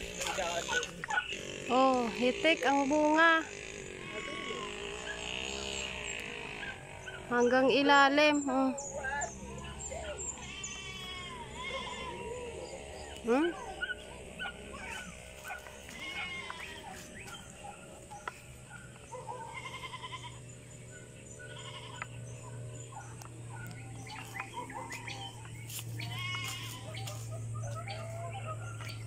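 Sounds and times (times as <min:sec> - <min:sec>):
animal wavering cries: 0:00.0 - 0:29.0
steady low hum: 0:00.0 - 0:29.0.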